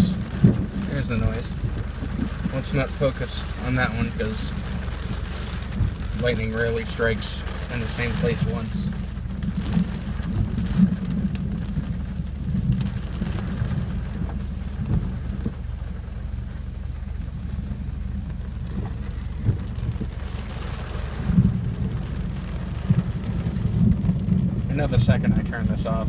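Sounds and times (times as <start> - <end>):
low rumble of thunder: 0.0 - 26.0
rain on a car: 0.0 - 26.0.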